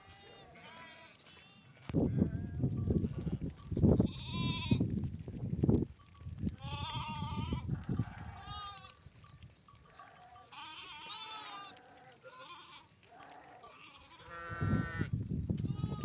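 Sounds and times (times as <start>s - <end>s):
sheep and goats bleating: 0.0s - 5.1s, 6.0s - 16.0s.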